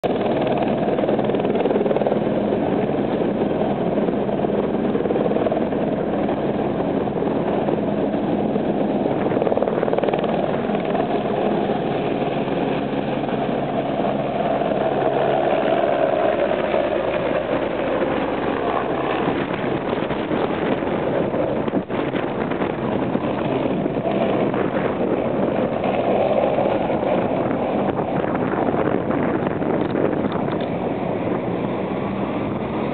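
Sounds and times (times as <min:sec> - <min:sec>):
helicopter rotor and turbine noise: 0:00.0 - 0:32.9.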